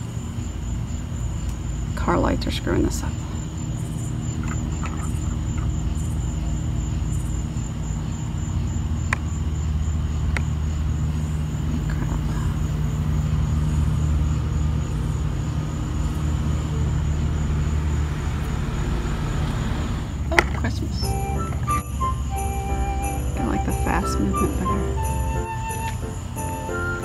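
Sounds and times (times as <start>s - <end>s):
car engine running: 3.1s - 25.4s.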